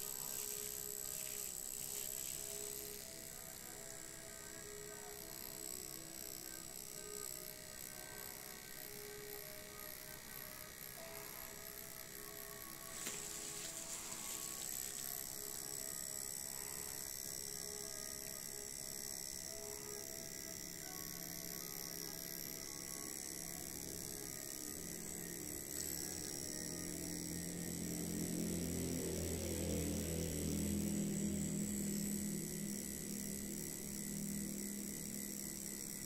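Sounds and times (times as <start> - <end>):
tattoo machine motor hum: 0.0 - 36.0.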